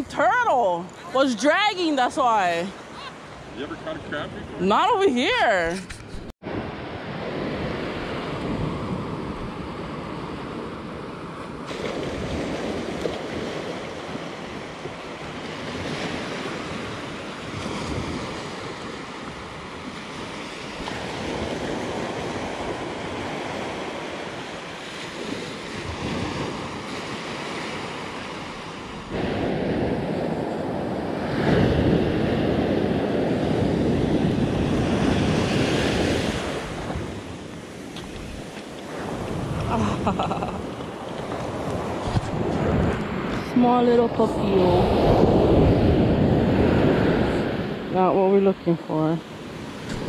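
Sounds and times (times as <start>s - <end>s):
waves breaking on a beach: 0.0s - 50.0s.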